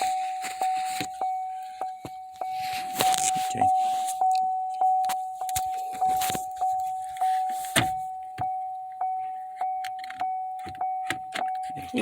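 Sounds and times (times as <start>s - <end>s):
car warning chime: 0.0s - 12.0s.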